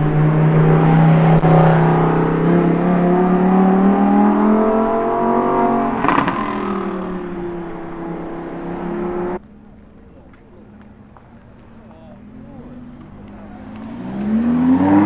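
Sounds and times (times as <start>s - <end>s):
supercar engine revving by: 0.0s - 9.4s, 12.2s - 15.0s.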